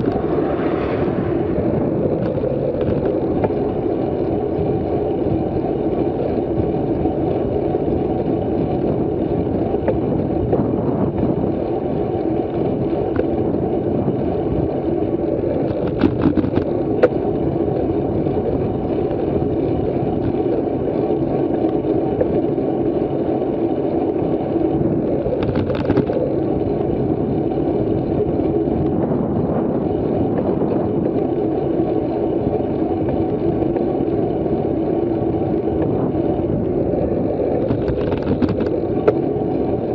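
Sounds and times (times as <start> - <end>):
bicycle road noise: 0.0 - 39.9
wind on microphone: 0.0 - 39.9.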